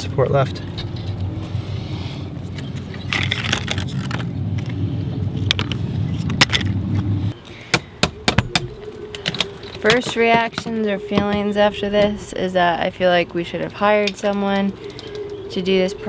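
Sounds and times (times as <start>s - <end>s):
steady low rumble: 0.0s - 16.0s
rotten wood crackling and scraping: 2.4s - 16.0s.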